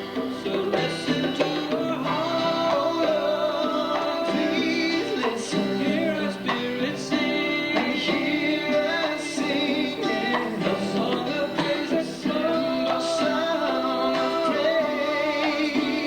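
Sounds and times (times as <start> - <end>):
church band playing: 0.0 - 16.0
voices singing along: 0.0 - 16.0.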